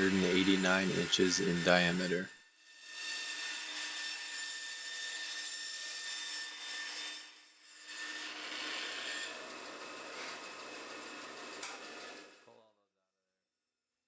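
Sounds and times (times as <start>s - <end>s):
band saw cutting wood: 0.0s - 7.3s, 7.9s - 12.4s.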